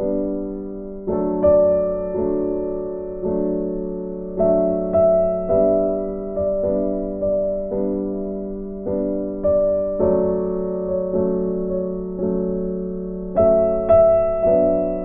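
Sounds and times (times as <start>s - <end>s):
soft electric piano chords: 0.0s - 15.0s.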